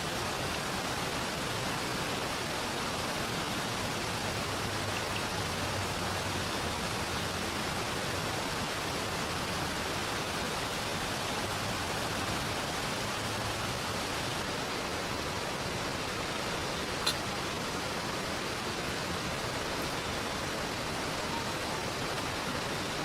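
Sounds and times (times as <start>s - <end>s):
rain hiss: 0.0s - 23.0s
river water flowing: 0.0s - 23.0s.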